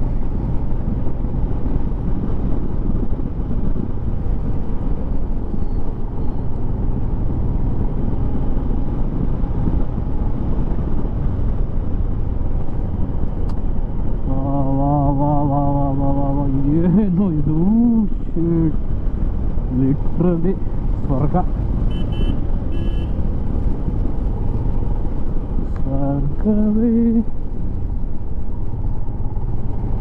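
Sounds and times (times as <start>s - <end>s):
wind rushing over camera: 0.0s - 30.0s.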